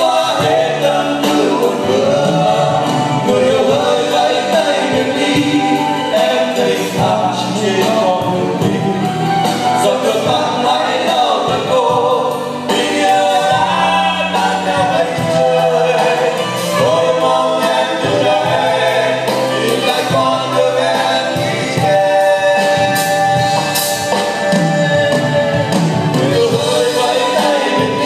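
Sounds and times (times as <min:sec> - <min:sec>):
band accompaniment: 0:00.0 - 0:28.0
choir-like vocals: 0:00.0 - 0:28.0
man singing pop ballad: 0:00.0 - 0:28.0.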